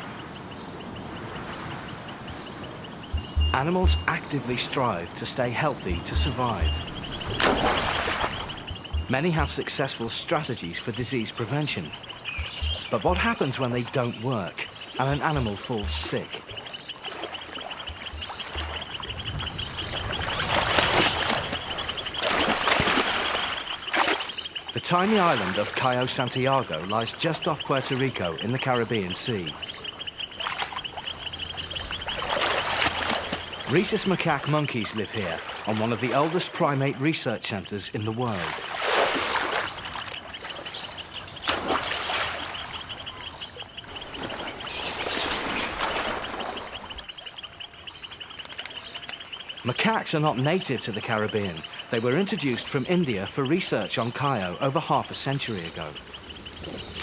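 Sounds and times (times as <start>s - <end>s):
insects chirping: 0.0s - 57.0s
water splashing: 1.0s - 47.3s.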